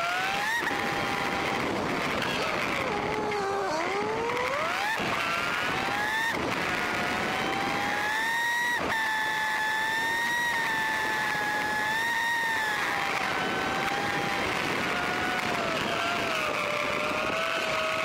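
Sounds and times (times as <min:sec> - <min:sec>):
motorcycle engine accelerating: 0:00.0 - 0:18.0
wind and road rush: 0:00.0 - 0:18.0.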